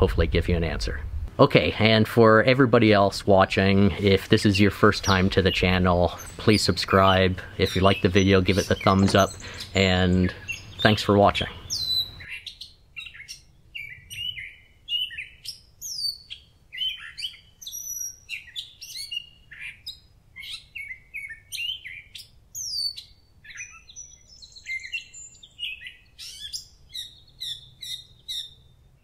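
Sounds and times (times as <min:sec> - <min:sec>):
songbirds singing: 0:01.7 - 0:29.0
buzzy bird trill: 0:04.0 - 0:28.8.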